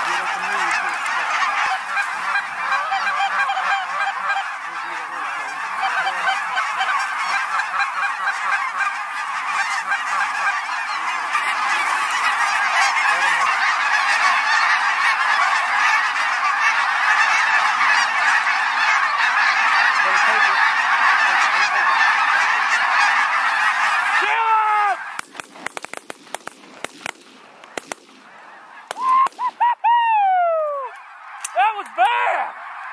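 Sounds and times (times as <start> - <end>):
geese honking: 0.0 - 32.9.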